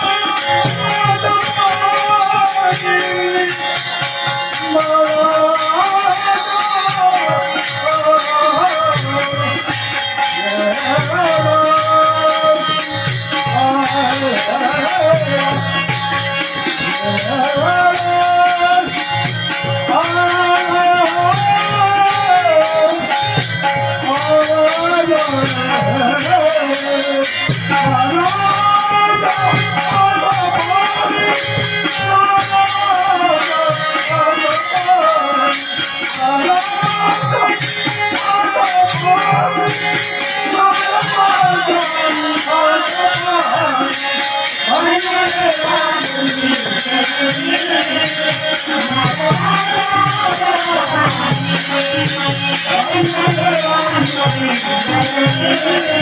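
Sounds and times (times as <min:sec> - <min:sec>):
jingling hand percussion: 0:00.0 - 0:56.0.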